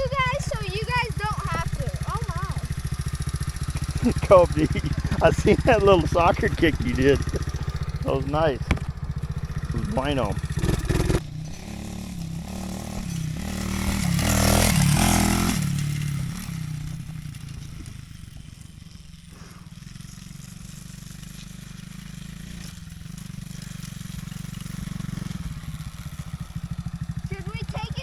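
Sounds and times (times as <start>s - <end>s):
small off-road engine revving: 0.0s - 28.0s.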